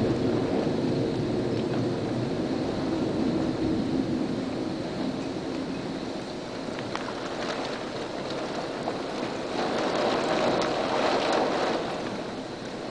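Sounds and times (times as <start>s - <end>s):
storm winds rushing: 0.0s - 12.9s.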